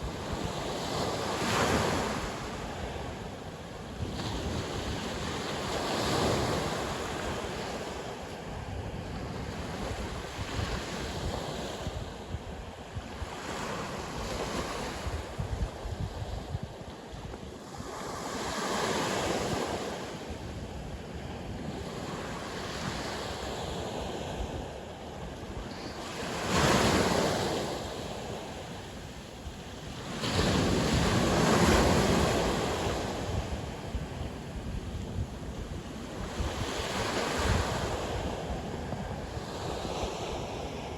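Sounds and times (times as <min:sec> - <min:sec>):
sea waves breaking on shore: 0:00.0 - 0:40.9
wind on microphone: 0:00.0 - 0:40.9.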